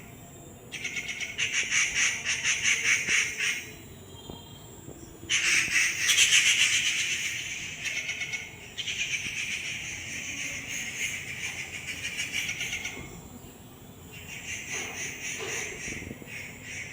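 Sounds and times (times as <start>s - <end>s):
small birds chirping: 0.7s - 16.9s.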